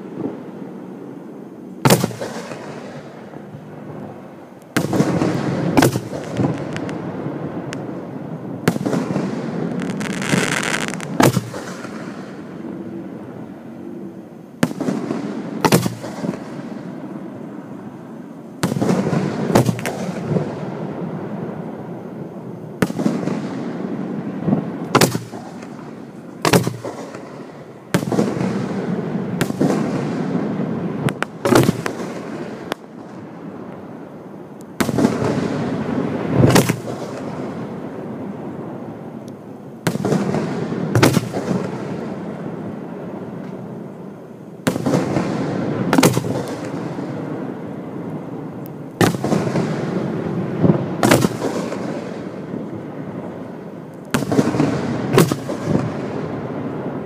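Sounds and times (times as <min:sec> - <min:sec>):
firework booms: 0:01.8 - 0:12.7, 0:14.6 - 0:17.2, 0:18.6 - 0:21.7, 0:22.7 - 0:34.1, 0:34.8 - 0:39.0, 0:39.8 - 0:43.9, 0:44.6 - 0:57.0.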